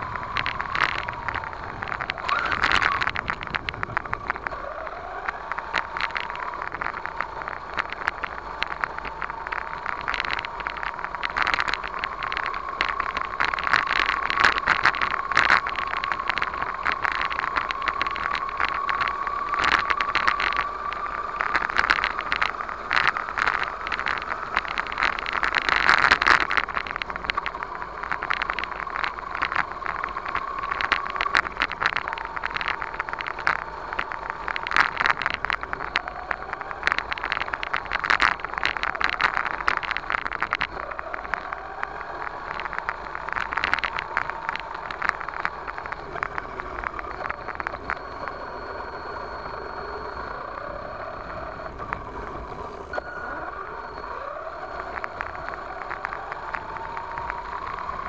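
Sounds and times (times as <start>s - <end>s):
toy truck motor whine: 0.0s - 58.0s
wheels crackling and rattling: 0.0s - 58.0s.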